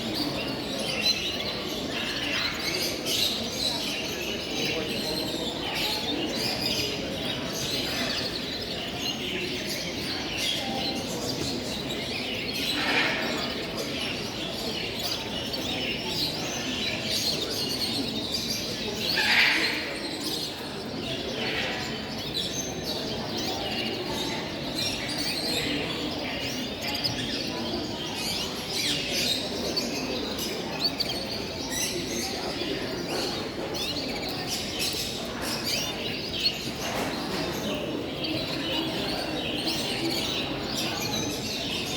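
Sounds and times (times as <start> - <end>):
caged birds chirping and calling: 0.0 - 41.9
loud bird calls: 0.0 - 41.9.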